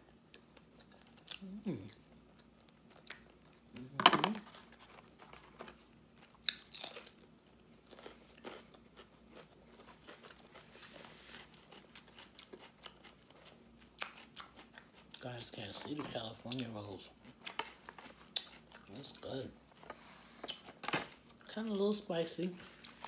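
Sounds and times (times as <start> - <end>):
person chewing crunchy food: 0.0 - 3.8, 4.5 - 21.4.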